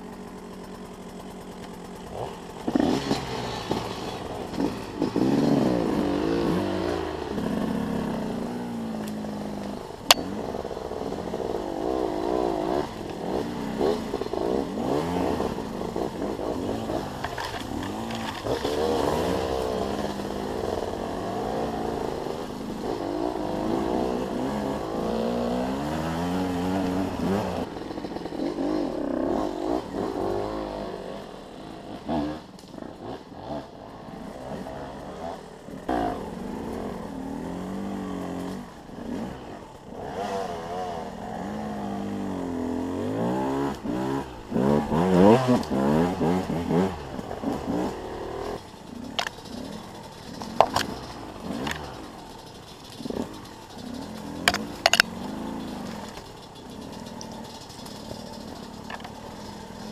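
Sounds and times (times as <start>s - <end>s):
motorcycle engines revving: 0.0s - 59.9s.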